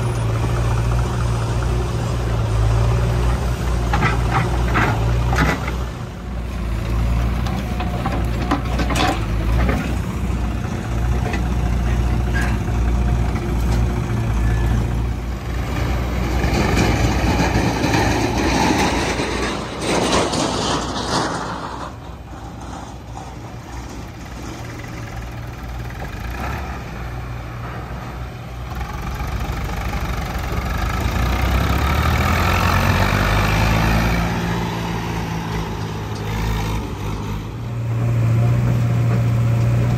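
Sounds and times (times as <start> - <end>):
diesel engines running: 0.0 - 39.9
tractor engine revving: 0.0 - 39.9.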